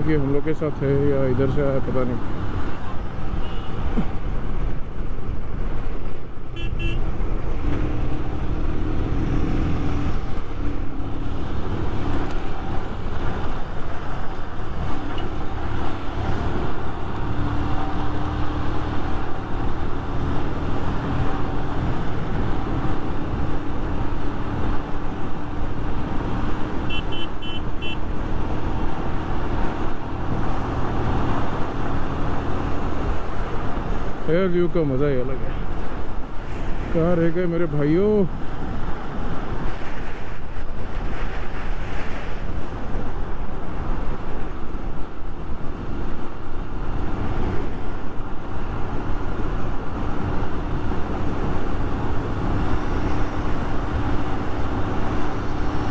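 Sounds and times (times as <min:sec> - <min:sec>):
wind rush on microphone: 0:01.2 - 0:26.9, 0:35.4 - 0:55.9.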